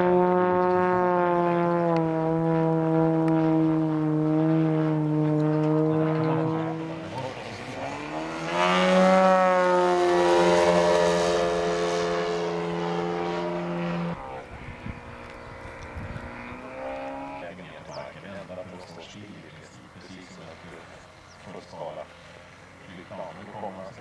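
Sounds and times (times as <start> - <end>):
model airplane engine: 0.0 - 24.0.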